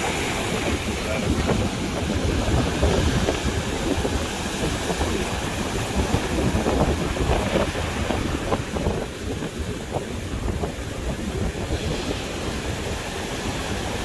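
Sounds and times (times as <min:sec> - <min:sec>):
sea surf washing: 0:00.0 - 0:14.0
wind buffeting microphone: 0:00.0 - 0:14.0.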